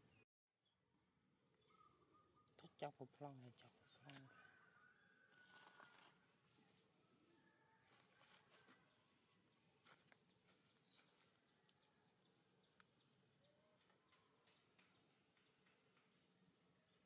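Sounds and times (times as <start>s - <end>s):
small birds chirping: 0.0s - 7.8s, 8.5s - 17.0s.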